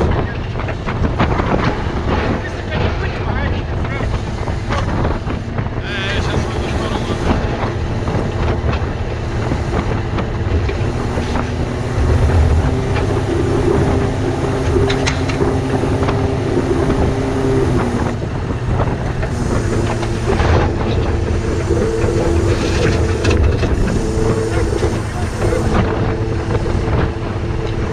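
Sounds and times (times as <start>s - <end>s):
diesel truck engine running: 0.0s - 27.9s
humming whine: 0.0s - 27.9s.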